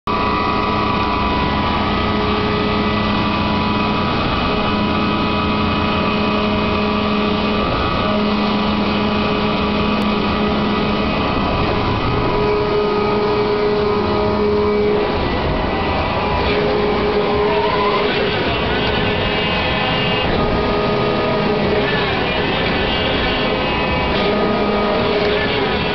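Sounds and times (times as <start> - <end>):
higher machine hum: 0.0 - 25.9
ride drive machinery humming: 0.1 - 25.9.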